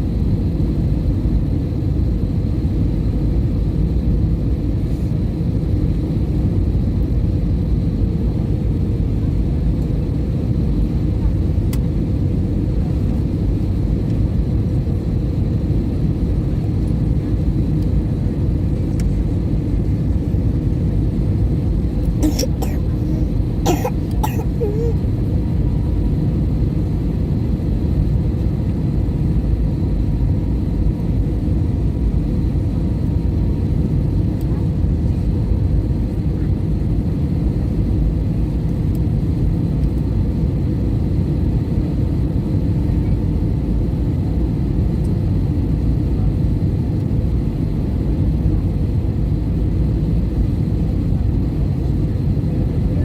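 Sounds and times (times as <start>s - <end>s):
airliner cabin rumble: 0.0s - 53.0s.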